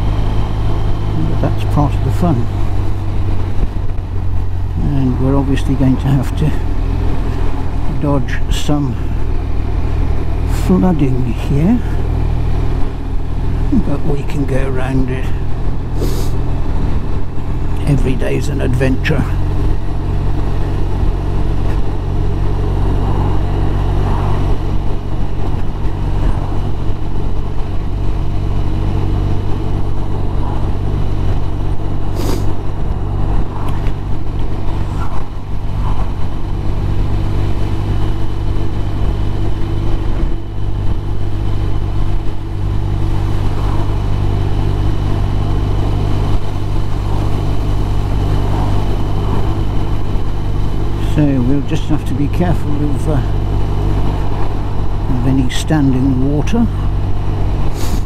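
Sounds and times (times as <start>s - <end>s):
motorcycle engine running: 0.0s - 58.0s
tyre noise on wet road: 0.0s - 58.0s
wind rush: 0.0s - 58.0s.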